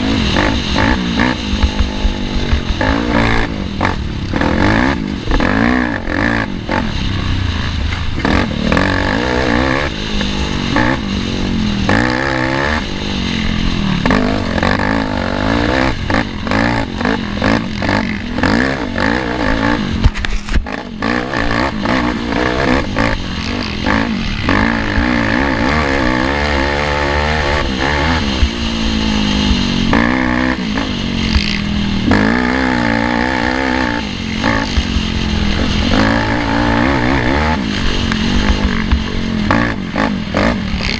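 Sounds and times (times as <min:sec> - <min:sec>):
atv engine revving: 0:00.0 - 0:40.9.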